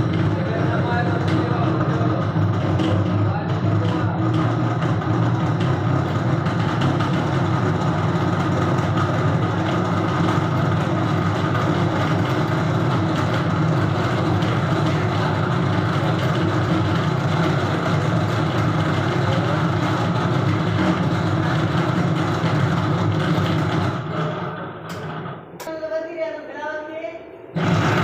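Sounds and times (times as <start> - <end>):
machine droning: 0.0 - 25.7, 27.4 - 28.0.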